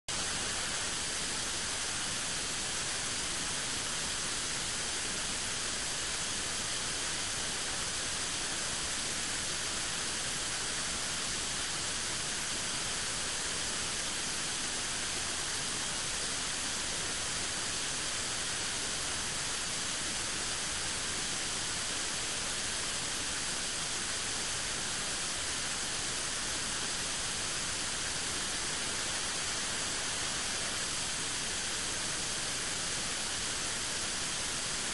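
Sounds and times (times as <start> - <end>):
static hiss: 0.1 - 34.9.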